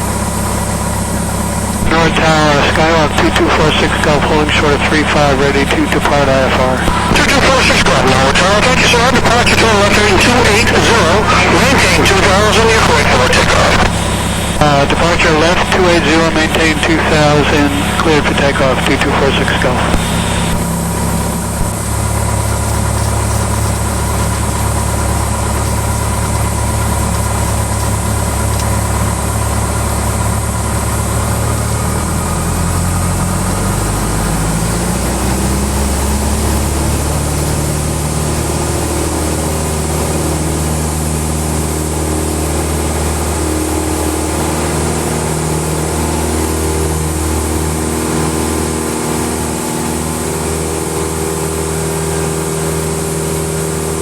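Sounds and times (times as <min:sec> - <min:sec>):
light aircraft engine drone: 0:00.0 - 0:54.0.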